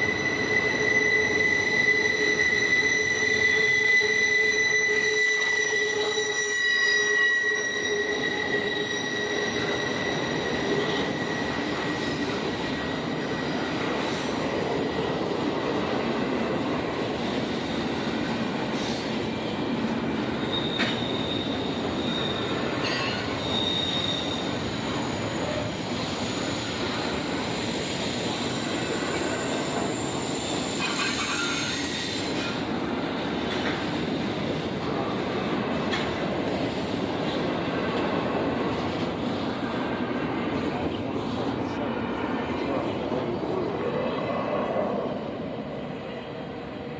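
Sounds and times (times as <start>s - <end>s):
train wheel squeal: 0.0s - 46.9s
train cars rolling and rattling: 5.6s - 45.6s.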